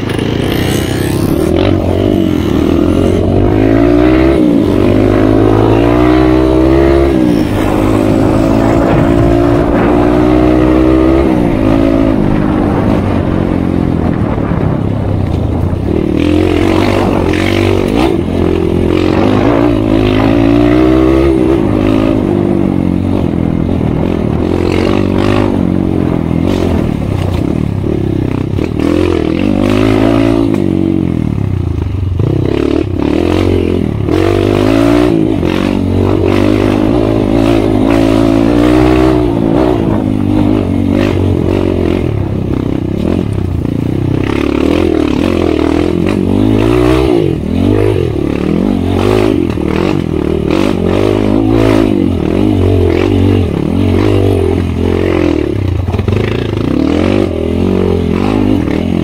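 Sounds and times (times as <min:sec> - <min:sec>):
dirt bike engine revving: 0:00.0 - 0:14.9, 0:15.5 - 0:59.0.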